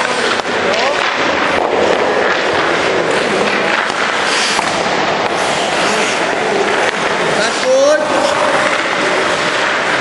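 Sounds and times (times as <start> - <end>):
skate blades scraping ice: 0.0 - 10.0
sticks and pucks clicking: 0.0 - 10.0.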